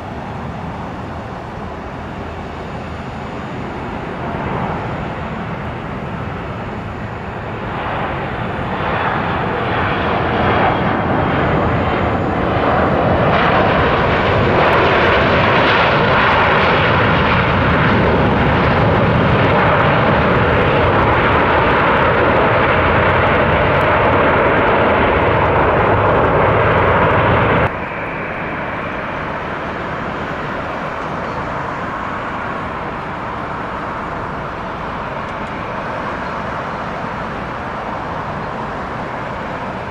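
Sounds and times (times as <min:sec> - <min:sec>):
aircraft engines roaring: 0:00.0 - 0:39.9.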